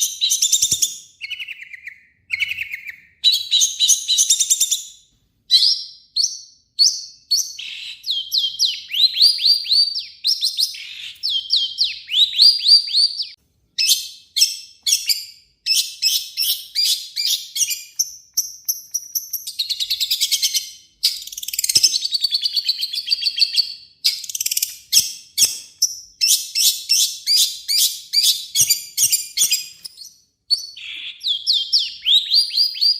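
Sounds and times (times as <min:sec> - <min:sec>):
bird singing harsh fast song: 0:00.0 - 0:32.9.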